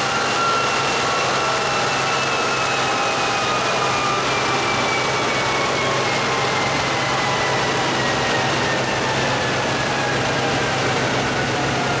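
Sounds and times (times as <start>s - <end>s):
loud mechanical noise: 0.0s - 12.0s.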